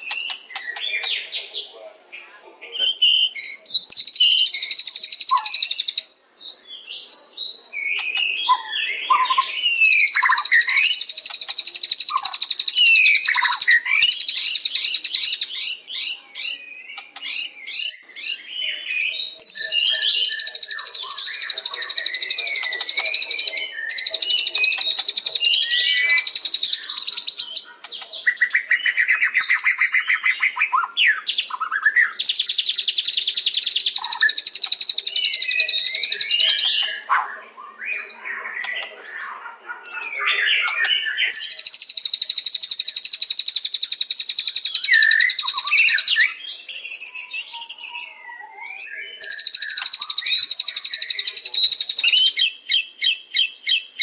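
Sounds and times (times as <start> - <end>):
songbird whistles and trills: 0.0 - 1.7, 2.8 - 54.0.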